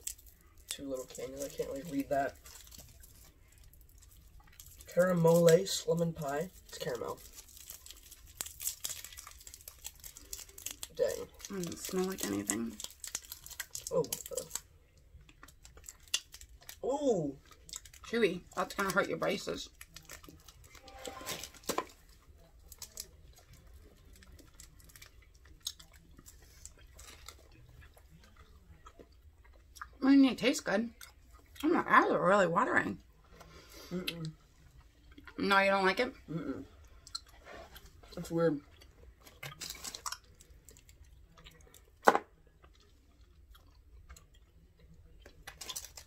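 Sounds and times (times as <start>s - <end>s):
people chewing candy: 0.0s - 30.0s, 30.8s - 31.9s, 32.9s - 35.4s, 36.2s - 46.0s.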